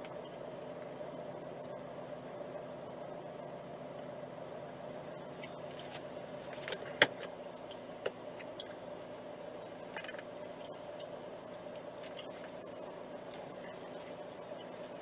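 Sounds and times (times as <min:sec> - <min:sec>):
steady car interior hum: 0:00.0 - 0:15.0.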